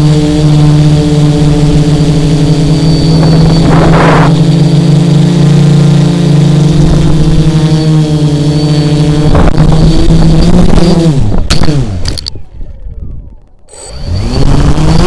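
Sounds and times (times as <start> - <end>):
drone motors and propellers: 0.0 - 15.0.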